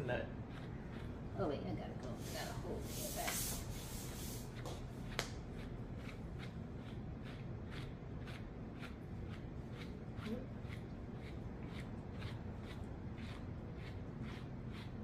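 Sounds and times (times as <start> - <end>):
brush raking through dog fur: 0.1 - 15.0.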